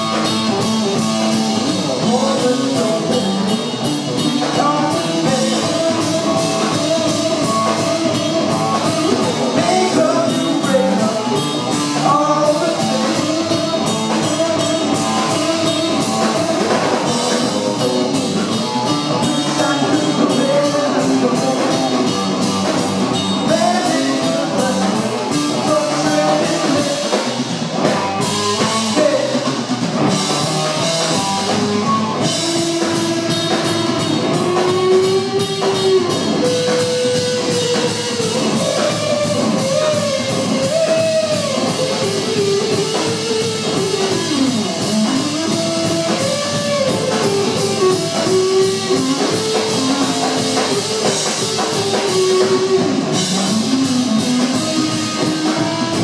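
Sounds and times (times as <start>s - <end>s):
bass guitar: 0.0s - 56.0s
drum kit with cymbals: 0.0s - 56.0s
electric guitar: 0.0s - 56.0s.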